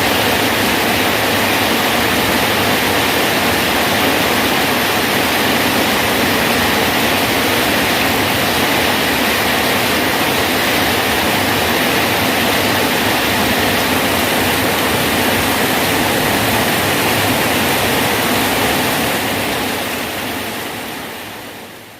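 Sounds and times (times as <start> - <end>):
rain falling on a bridge: 0.0 - 21.9.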